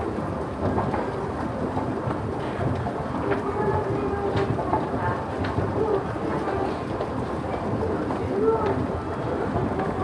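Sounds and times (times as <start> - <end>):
department store noise: 0.0 - 10.0.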